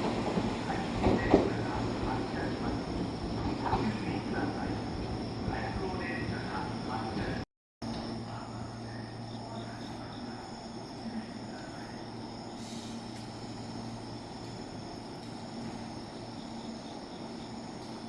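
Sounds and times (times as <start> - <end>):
insects chirring: 0.1 - 18.0.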